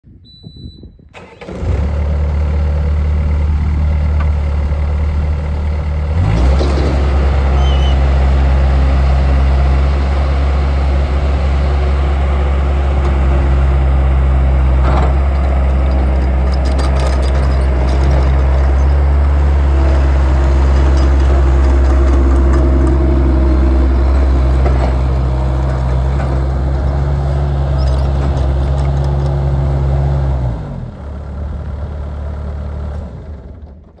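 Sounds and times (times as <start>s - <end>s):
diesel engine revving: 1.2s - 33.7s.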